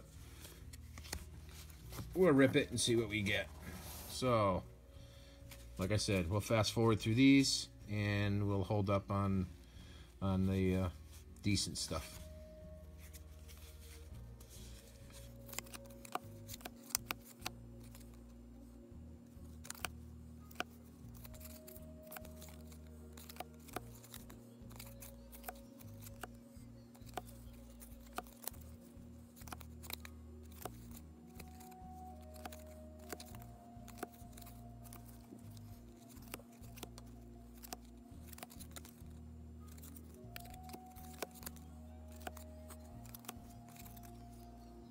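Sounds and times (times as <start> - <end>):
cards being flipped: 0.0 - 4.4, 10.4 - 44.9
faint background music: 0.0 - 44.9.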